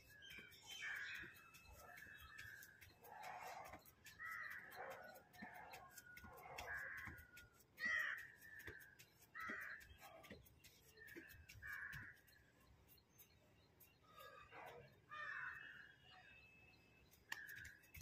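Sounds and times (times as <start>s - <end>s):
bird calls: 0.0s - 18.0s.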